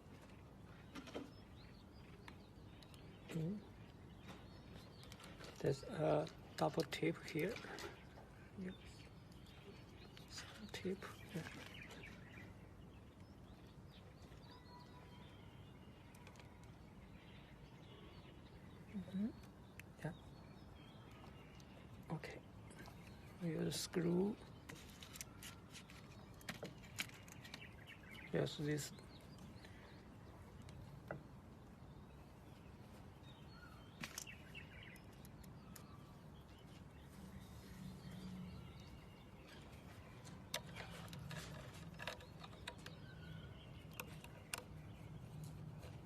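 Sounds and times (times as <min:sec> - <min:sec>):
faint birds chirping: 0:00.0 - 0:46.0.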